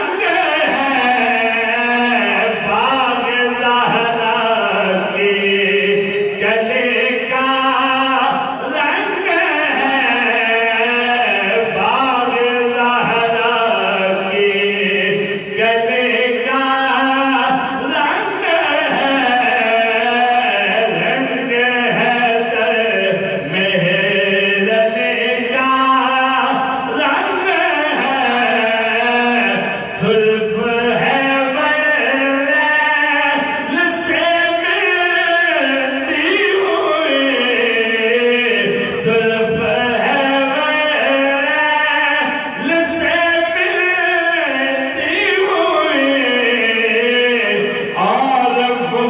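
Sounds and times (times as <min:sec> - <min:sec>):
men singing unaccompanied: 0:00.0 - 0:49.0.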